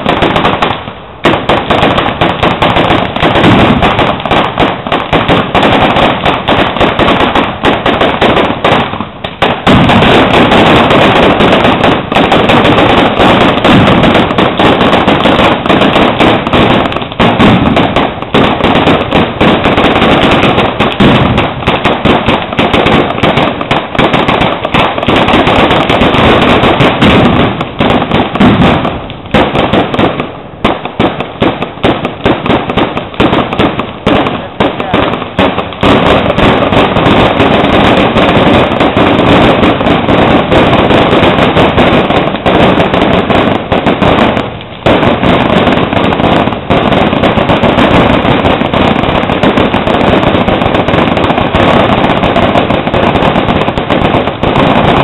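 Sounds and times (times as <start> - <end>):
firecrackers banging and crackling: 0.0 - 55.0.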